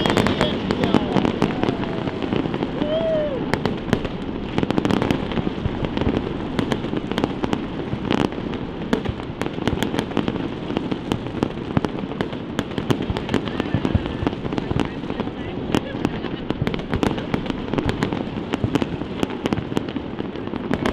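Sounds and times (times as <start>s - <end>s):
fireworks pops and crackles: 0.0s - 20.9s.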